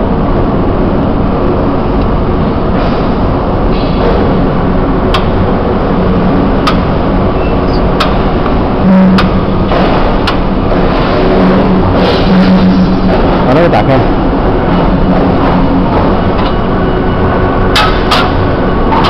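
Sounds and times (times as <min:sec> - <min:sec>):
lift rushing noise: 0:01.1 - 0:19.0.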